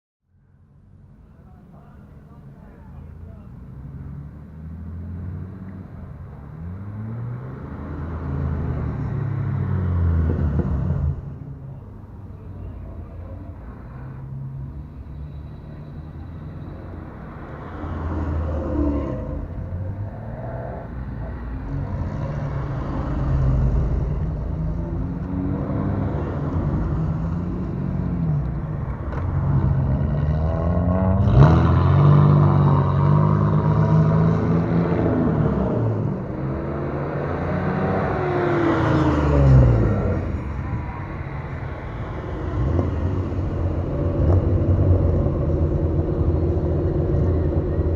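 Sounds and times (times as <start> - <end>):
car engines revving: 1.0 - 47.9.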